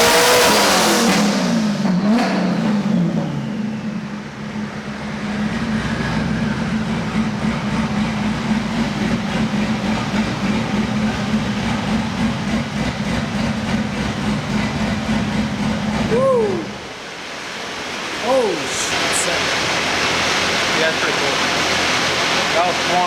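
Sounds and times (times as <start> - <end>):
car engine droning: 0.0 - 23.0
dyno rollers rumbling: 0.0 - 23.0.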